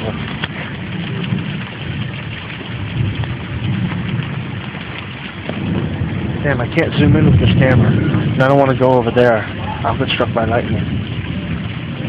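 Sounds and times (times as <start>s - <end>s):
heavy rain falling: 0.0s - 12.0s
low thunder rumble: 0.0s - 12.0s.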